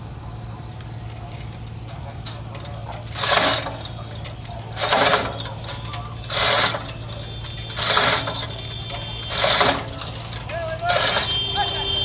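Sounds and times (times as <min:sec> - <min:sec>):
metal chain rattling through hoist: 0:00.9 - 0:12.0.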